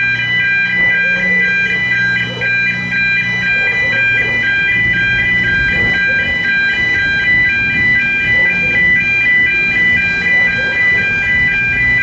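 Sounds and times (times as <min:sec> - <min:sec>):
level crossing alarm warbling: 0:00.0 - 0:12.0
train rumbling: 0:00.8 - 0:12.0.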